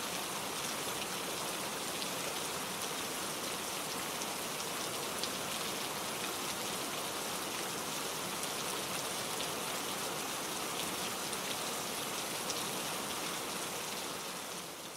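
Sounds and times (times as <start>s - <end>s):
rain on hard surfaces: 0.0s - 14.9s.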